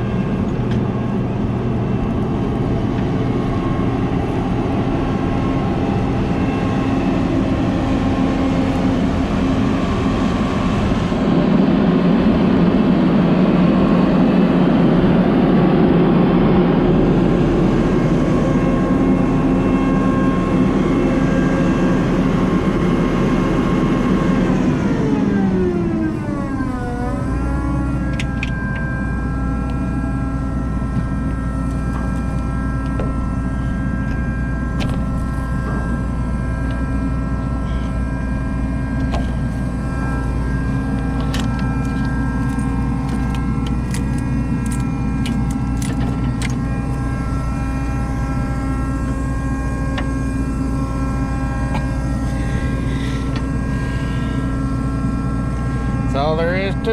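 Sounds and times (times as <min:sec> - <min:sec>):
large diesel engine running: 0:00.0 - 0:56.9.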